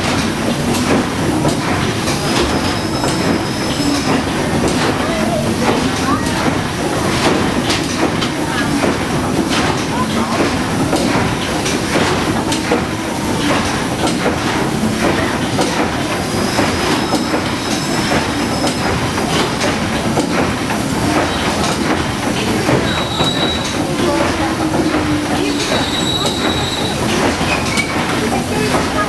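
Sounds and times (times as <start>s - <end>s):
steam engine machinery clattering: 0.0s - 29.0s.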